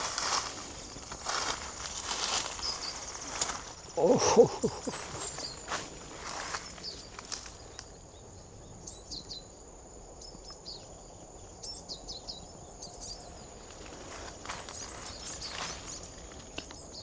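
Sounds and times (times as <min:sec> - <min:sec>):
small birds chirping: 0:00.0 - 0:09.5, 0:10.2 - 0:17.0
outdoor background noise: 0:00.0 - 0:17.0.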